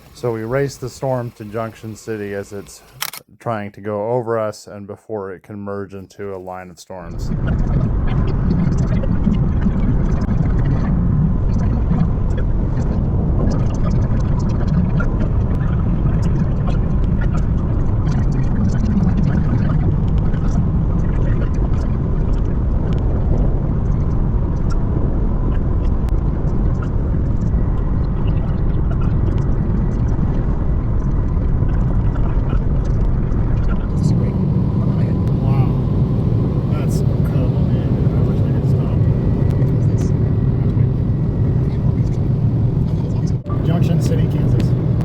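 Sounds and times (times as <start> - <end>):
car road and engine noise: 0.0 - 3.1, 7.3 - 45.0.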